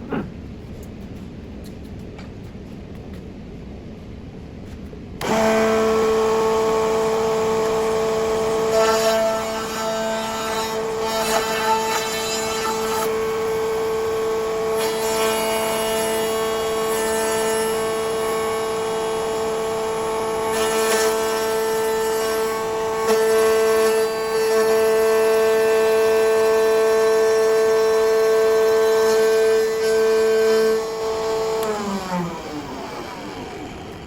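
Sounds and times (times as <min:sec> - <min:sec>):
power tool motor whining: 0:05.2 - 0:34.0.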